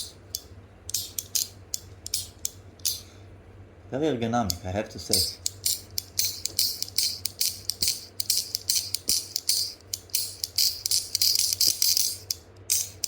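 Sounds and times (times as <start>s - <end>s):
fidget clicker clicking: 0.0s - 3.0s, 4.5s - 13.0s.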